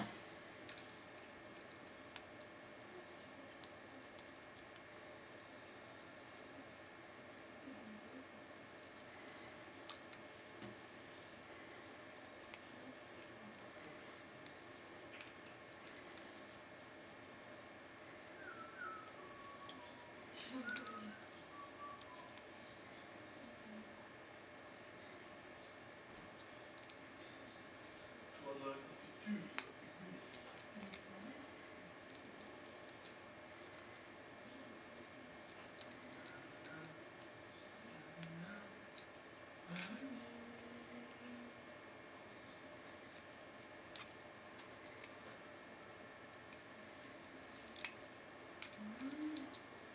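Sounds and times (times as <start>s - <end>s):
faint hiss: 0.0s - 49.9s.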